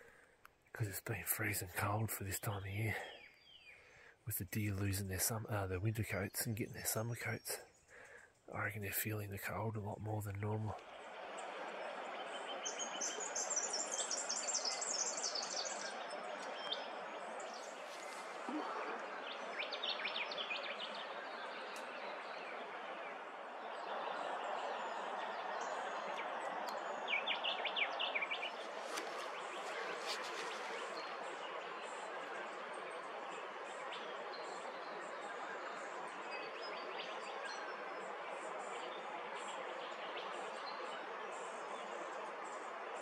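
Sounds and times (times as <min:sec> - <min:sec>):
wild birds calling: 0:00.0 - 0:42.7.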